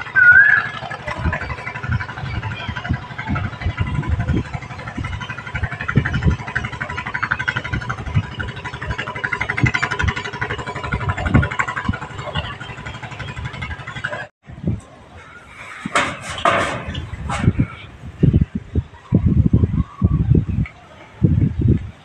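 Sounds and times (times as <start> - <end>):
engine running: 0.0 - 18.2.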